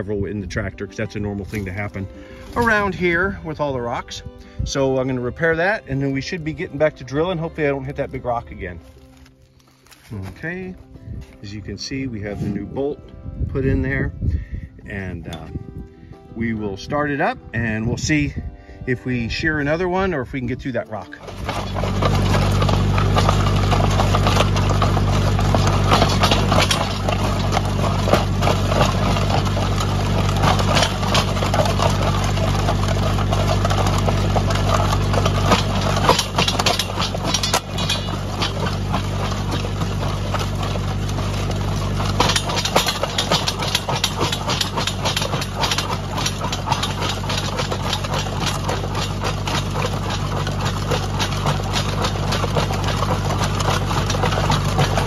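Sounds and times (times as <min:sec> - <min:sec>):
rocks scraping against auger: 0:00.0 - 0:55.0
tractor engine under load: 0:00.0 - 0:55.0.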